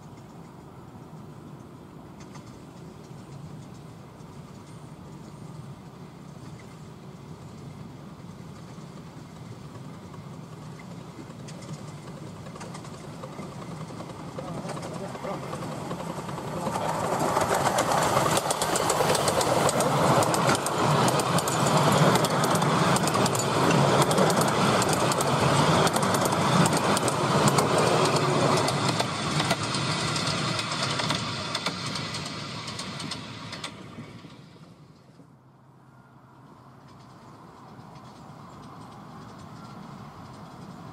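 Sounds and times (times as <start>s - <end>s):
train wheels clicking and clattering: 0.0s - 35.4s, 36.5s - 40.9s
miniature steam train passing: 0.0s - 40.9s.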